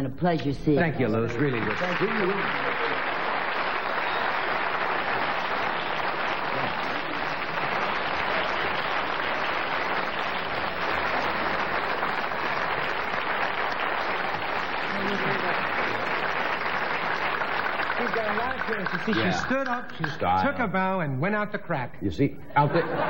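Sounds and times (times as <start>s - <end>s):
audience applauding: 1.1s - 20.6s.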